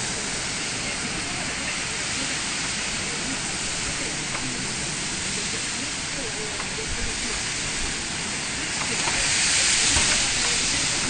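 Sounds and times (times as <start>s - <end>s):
wind and rain rushing: 0.0s - 11.0s.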